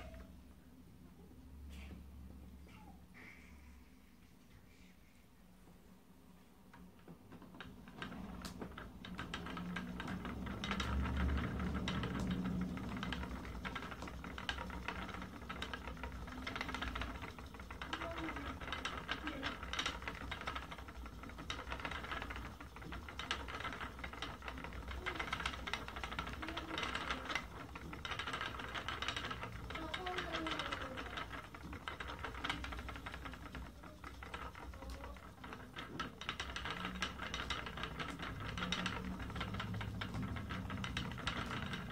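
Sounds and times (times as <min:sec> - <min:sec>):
low hum of turning wheel: 0:06.5 - 0:41.9
spinning wheel rattling clicks: 0:06.7 - 0:41.9.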